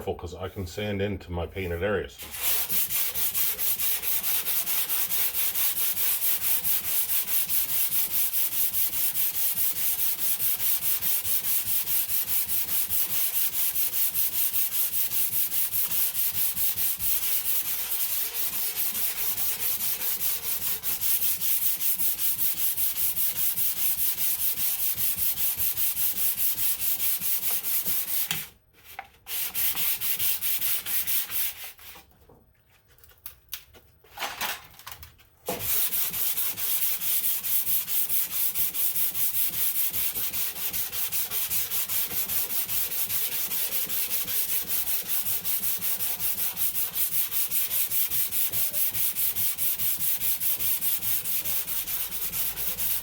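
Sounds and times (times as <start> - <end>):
sandpaper sanding car panel: 2.2 - 28.4, 29.3 - 31.9, 35.5 - 53.0.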